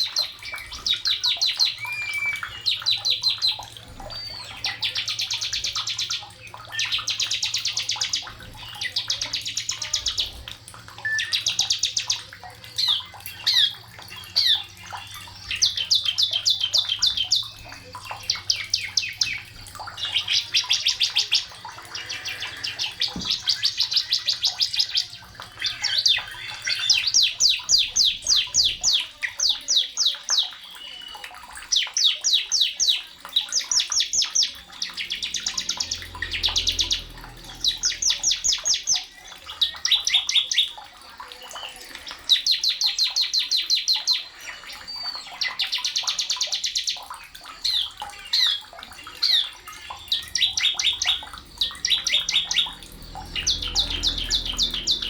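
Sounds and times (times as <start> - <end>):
bird singing fast trills: 0.0 - 40.8, 41.4 - 55.0.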